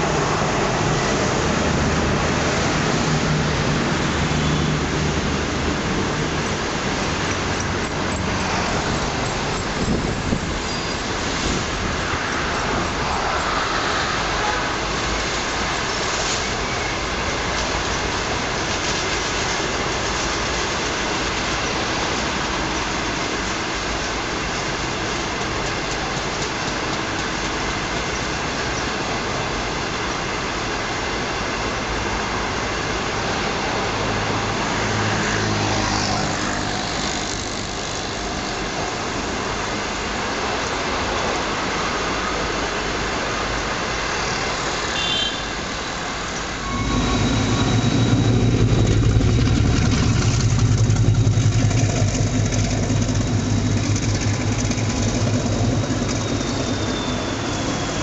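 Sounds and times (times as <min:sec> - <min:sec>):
train wheels rolling on track: 0:00.0 - 0:58.0.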